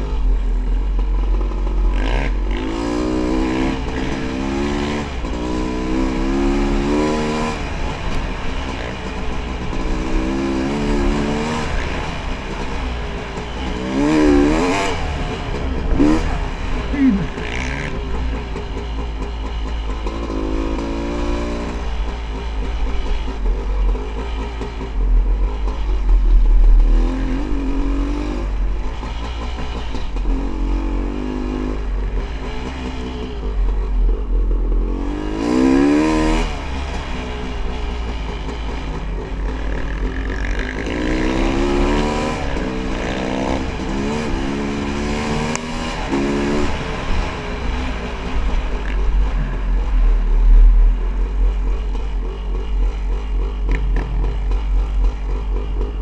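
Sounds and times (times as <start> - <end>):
dirt bike engine revving: 1.2 - 33.2, 34.7 - 56.0.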